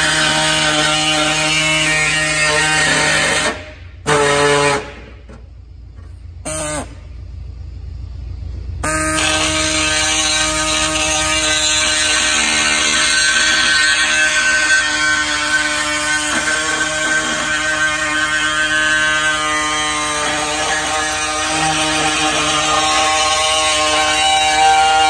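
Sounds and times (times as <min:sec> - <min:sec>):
pneumatic cutting tool whining: 0:00.0 - 0:05.4, 0:06.4 - 0:07.0, 0:08.8 - 0:25.0.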